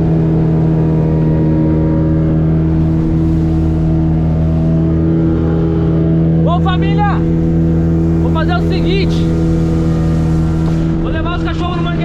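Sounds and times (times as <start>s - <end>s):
speedboat engine droning: 0.0s - 12.0s
water rushing along hull: 0.0s - 12.0s.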